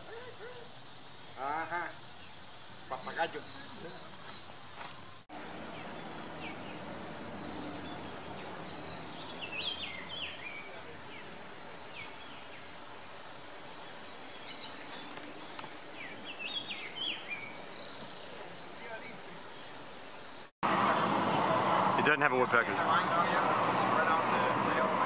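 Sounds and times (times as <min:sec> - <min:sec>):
bird calls: 0:00.0 - 0:20.5
outdoor background noise: 0:00.0 - 0:25.0.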